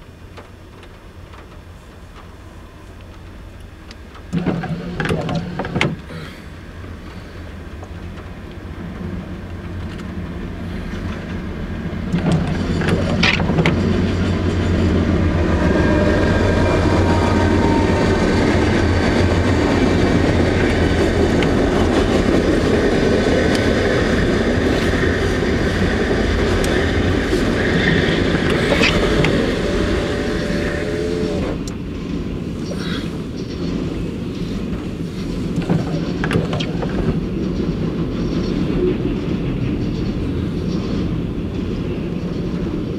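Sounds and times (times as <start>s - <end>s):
locomotive engine hum: 0.0s - 42.9s
train wheel and rail clatter: 0.0s - 42.9s.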